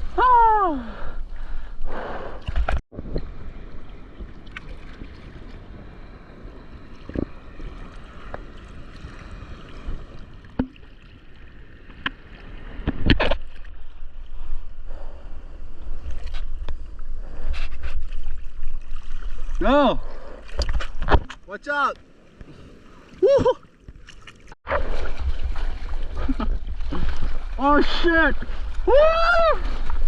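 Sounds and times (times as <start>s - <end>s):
ocean water sloshing and splashing: 2.4s - 30.0s.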